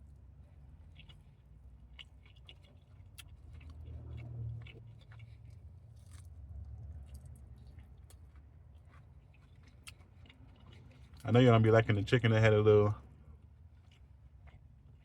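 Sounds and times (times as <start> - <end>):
chewing with wet mouth clicks: 0.0 - 12.0, 13.3 - 15.0
low steady rumble: 0.0 - 15.0.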